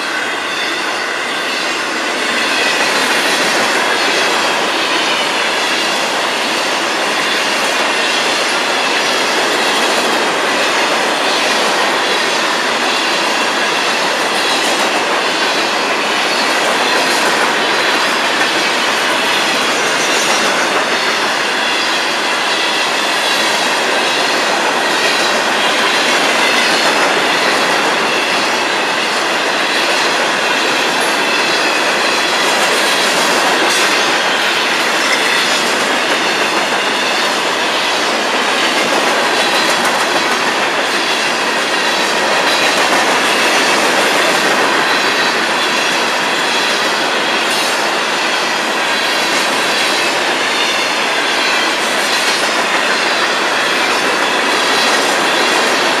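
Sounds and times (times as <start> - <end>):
steel wheels on rails: 0.0 - 56.0.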